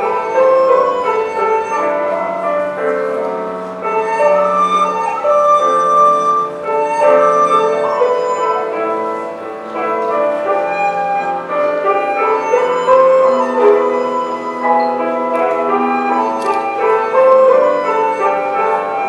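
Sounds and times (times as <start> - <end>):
backing accompaniment: 0.0 - 19.0
bamboo flute melody: 0.0 - 19.0.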